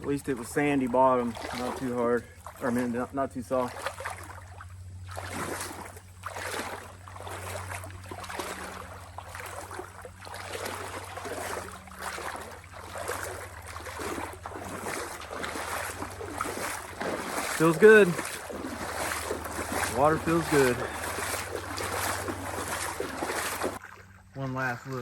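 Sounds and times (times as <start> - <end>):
legs wading through water: 0.0 - 25.0.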